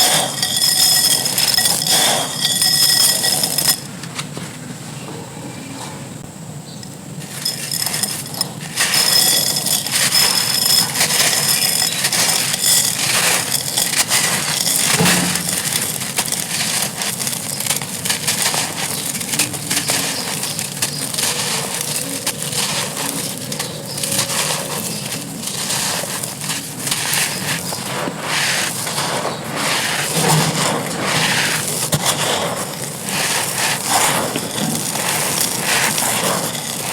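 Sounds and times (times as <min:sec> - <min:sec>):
clay pot being crushed: 0:00.0 - 0:04.3, 0:07.2 - 0:36.9.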